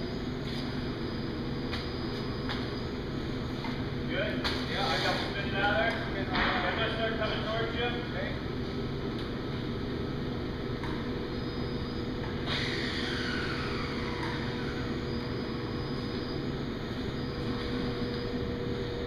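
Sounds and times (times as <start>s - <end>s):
shop machinery humming: 0.0s - 19.0s.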